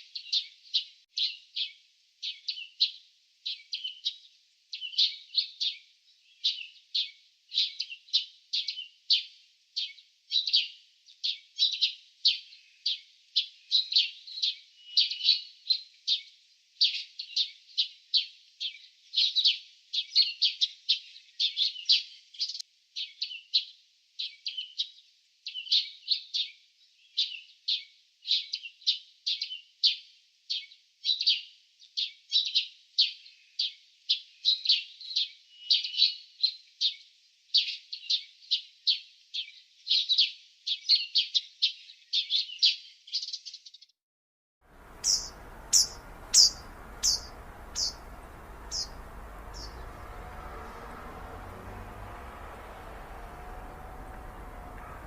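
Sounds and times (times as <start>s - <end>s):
small birds chirping: 0.0s - 43.9s, 44.7s - 55.0s.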